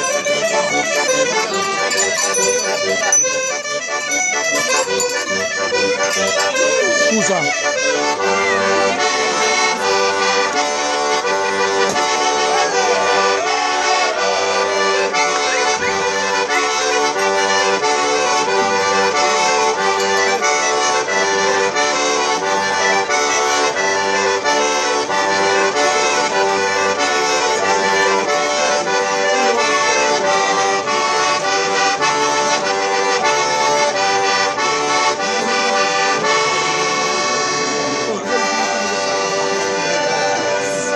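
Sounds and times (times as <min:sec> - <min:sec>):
accordion playing folk tune: 0:00.0 - 0:40.9.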